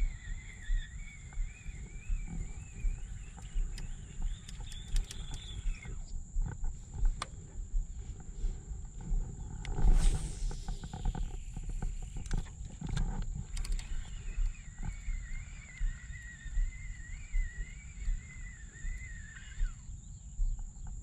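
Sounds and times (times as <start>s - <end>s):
faint wavering whine: 0.0s - 21.0s
wind buffeting microphone: 0.0s - 21.0s.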